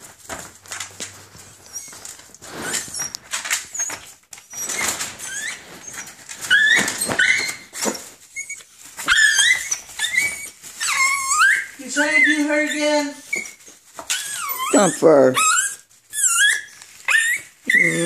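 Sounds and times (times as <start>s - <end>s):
dogs whining: 1.1s - 18.0s.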